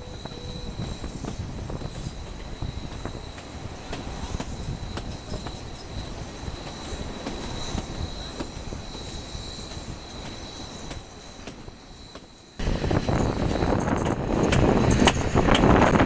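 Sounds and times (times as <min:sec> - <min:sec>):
wind noise on microphone: 0:00.0 - 0:10.1, 0:12.6 - 0:16.0
train wheels squealing on rails: 0:00.0 - 0:16.0.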